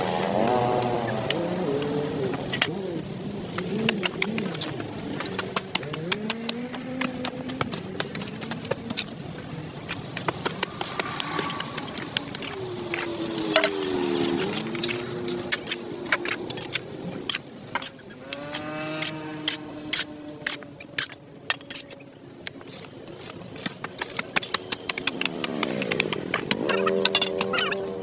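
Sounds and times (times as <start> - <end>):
rapid irregular clicks and taps: 3.5 - 18.7, 19.5 - 28.0.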